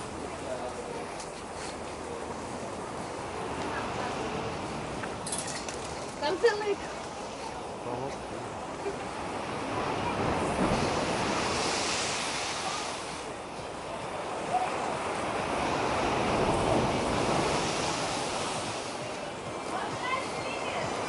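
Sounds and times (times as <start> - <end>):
heavy waves breaking: 0.0 - 21.0.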